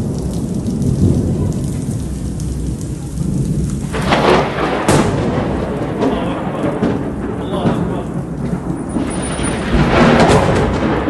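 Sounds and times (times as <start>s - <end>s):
heavy rain: 0.0s - 11.0s
low thunder rumble: 0.0s - 11.0s
thunder crack: 0.0s - 11.0s.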